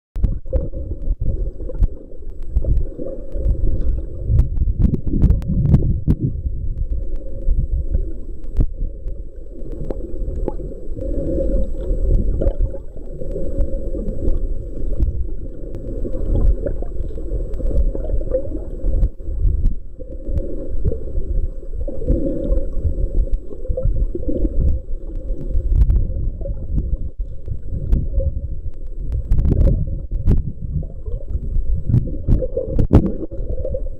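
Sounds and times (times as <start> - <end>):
underwater rumble and sloshing: 0.2 - 33.9.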